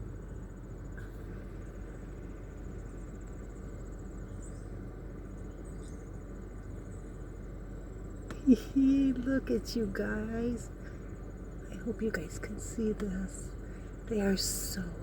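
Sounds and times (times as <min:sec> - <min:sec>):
insects trilling: 0:00.0 - 0:15.0
low background rumble: 0:00.0 - 0:15.0.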